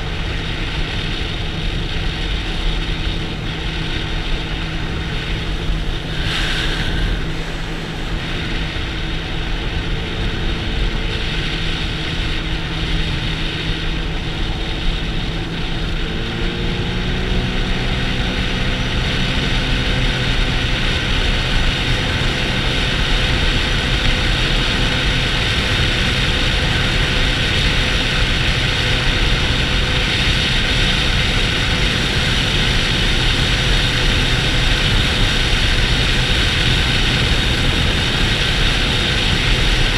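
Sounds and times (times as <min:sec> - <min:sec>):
jet ski engine running: 0:00.0 - 0:39.9
wind: 0:00.0 - 0:39.9.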